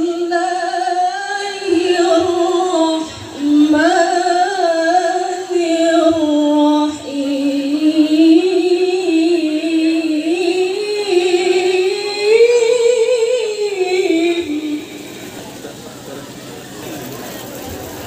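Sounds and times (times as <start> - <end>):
woman reciting melodically: 0.0 - 15.3.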